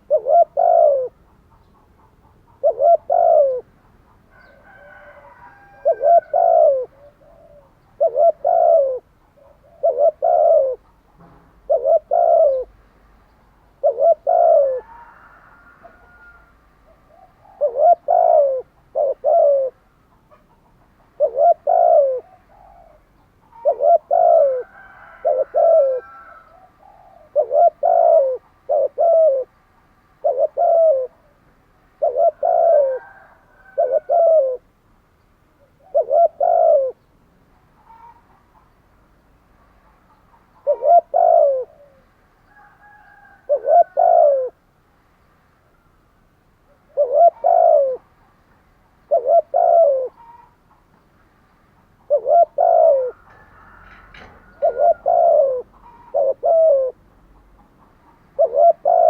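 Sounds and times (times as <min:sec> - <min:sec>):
dove cooing: 0:00.0 - 0:12.8, 0:13.6 - 0:29.6, 0:30.2 - 0:34.7, 0:35.6 - 0:37.1, 0:37.7 - 0:38.8, 0:39.7 - 0:44.6, 0:46.7 - 0:48.4, 0:49.0 - 0:50.9, 0:51.8 - 0:59.0.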